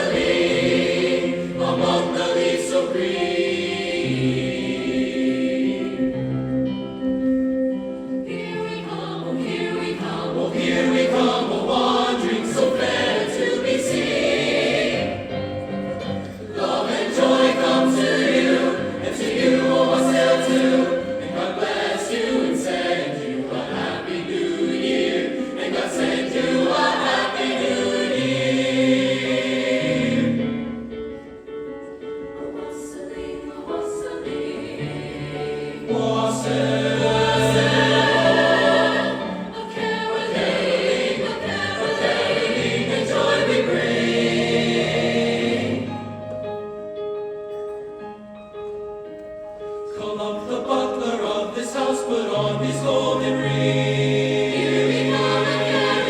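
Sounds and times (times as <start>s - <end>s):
choir singing sustained chords: 0.0s - 46.9s, 49.7s - 56.0s.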